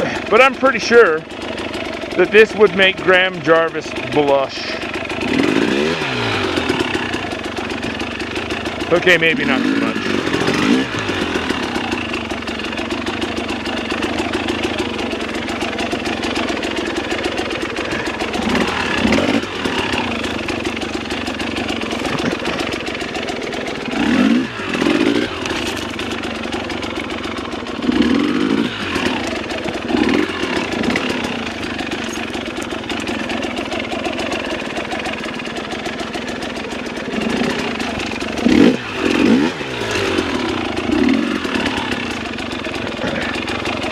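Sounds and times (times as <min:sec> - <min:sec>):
dirt bike engine with throttle blips: 0:00.0 - 0:43.9.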